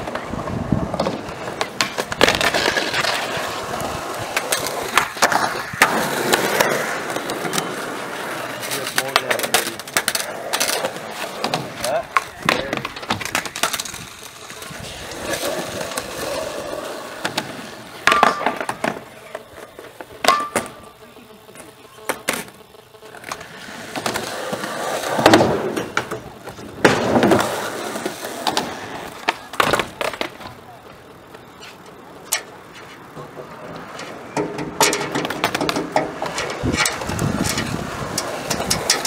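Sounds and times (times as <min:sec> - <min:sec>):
skateboard popping and landing clack: 0:00.0 - 0:20.9, 0:21.5 - 0:30.7, 0:31.3 - 0:39.0
skateboard wheels rolling on concrete: 0:00.0 - 0:39.0.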